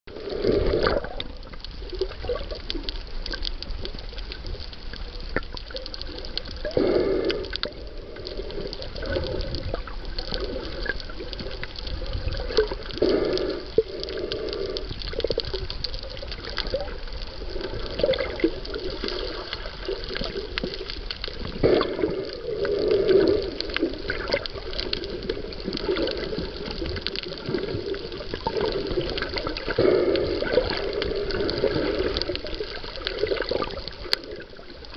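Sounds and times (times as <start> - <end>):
underwater rushing and bubbling: 0.1 - 34.9
small scattered clicks: 0.8 - 34.9.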